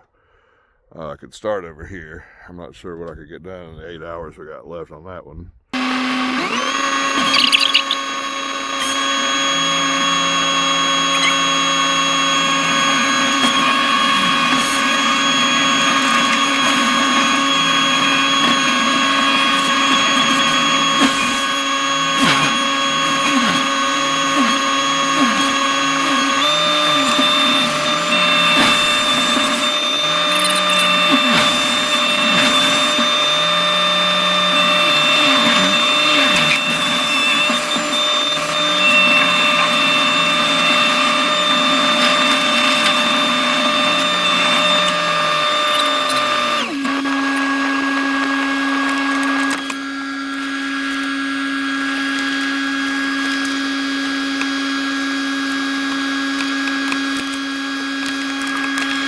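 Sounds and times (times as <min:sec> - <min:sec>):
mulching machine whine: 0:05.8 - 0:59.0.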